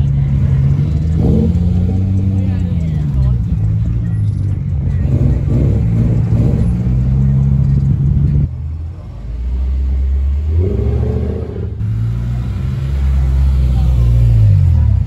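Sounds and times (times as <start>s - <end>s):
car engine running at low revs: 0.0s - 15.0s
deep engine rumble: 0.0s - 15.0s.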